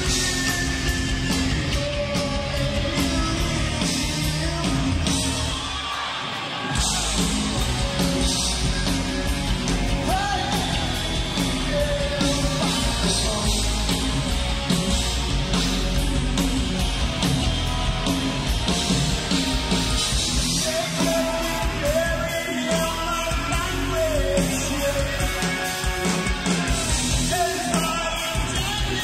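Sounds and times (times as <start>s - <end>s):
distorted guitars: 0.0s - 29.0s
drums pounding: 0.0s - 29.0s
heavy metal band playing: 0.0s - 29.0s.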